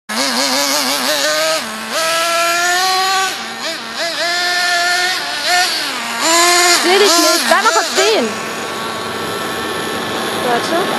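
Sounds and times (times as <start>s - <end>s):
rc car motor revving: 0.1s - 10.9s.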